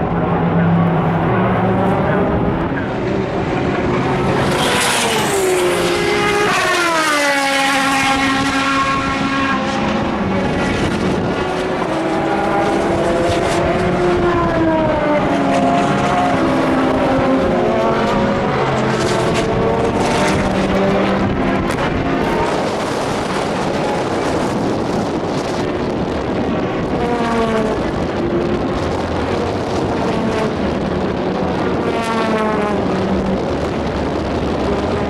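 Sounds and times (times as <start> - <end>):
racing cars passing at speed: 0.0 - 35.0.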